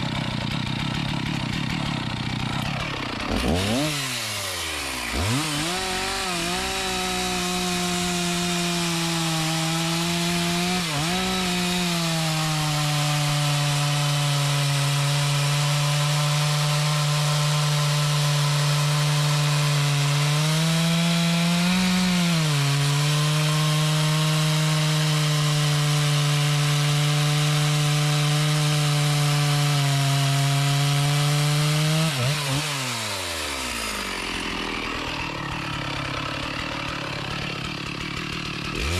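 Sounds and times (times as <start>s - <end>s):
chainsaw cutting a tree: 0.0s - 38.9s.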